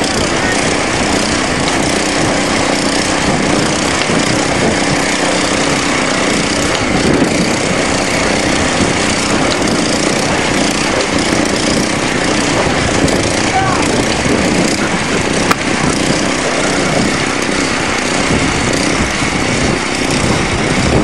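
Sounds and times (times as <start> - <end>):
garden tractor engines under load: 0.0 - 21.0.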